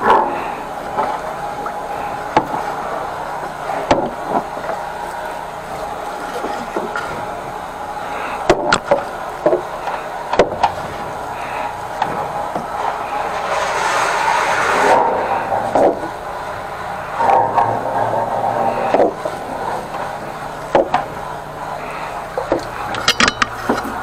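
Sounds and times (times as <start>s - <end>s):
petrol engine running: 0.0s - 24.0s.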